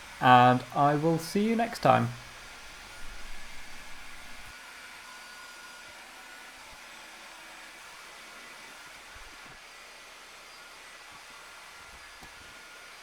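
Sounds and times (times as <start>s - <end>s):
faint hiss with thin whine: 0.0s - 4.5s, 5.1s - 13.0s.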